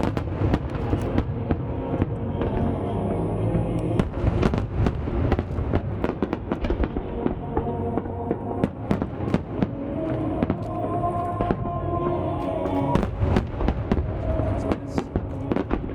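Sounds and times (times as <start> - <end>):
fireworks bangs: 0.0 - 2.8, 4.0 - 11.8, 12.4 - 15.9
music: 0.0 - 15.9.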